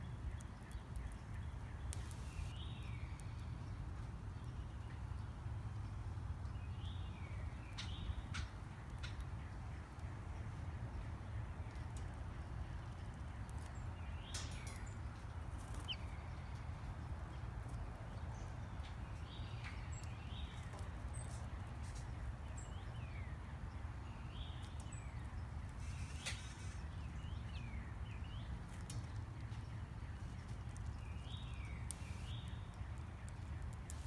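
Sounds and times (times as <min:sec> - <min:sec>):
birds chirping: 0:00.0 - 0:05.3, 0:11.7 - 0:34.0.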